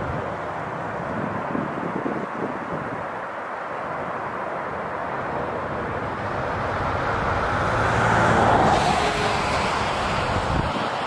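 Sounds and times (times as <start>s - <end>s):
distant jet airliner engine rush: 0.0s - 11.0s.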